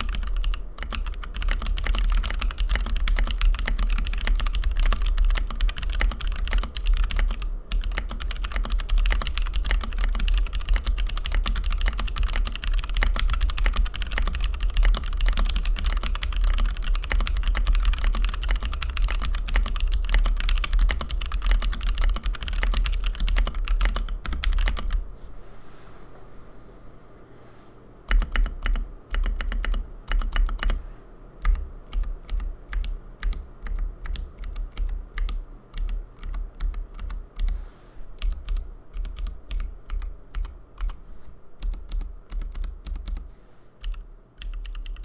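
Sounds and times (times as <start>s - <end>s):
fast typing on keyboard: 0.0s - 25.0s, 28.1s - 30.8s, 31.4s - 37.6s, 38.2s - 41.0s, 41.6s - 45.0s.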